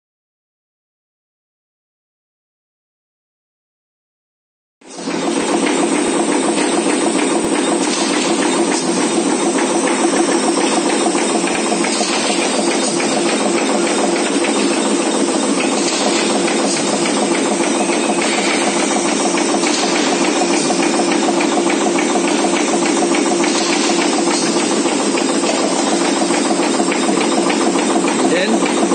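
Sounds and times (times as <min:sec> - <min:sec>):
chopping machine running: 0:04.9 - 0:28.9.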